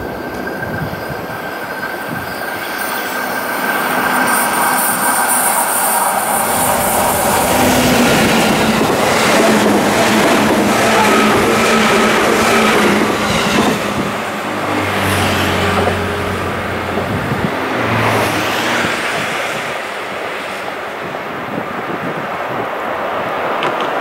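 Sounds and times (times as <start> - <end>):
train rolling past: 0.0 - 24.0
road traffic: 2.9 - 24.0.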